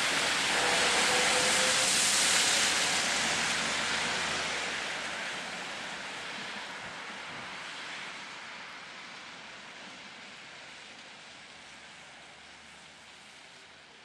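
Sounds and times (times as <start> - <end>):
truck driving on slushy road: 0.0 - 14.0.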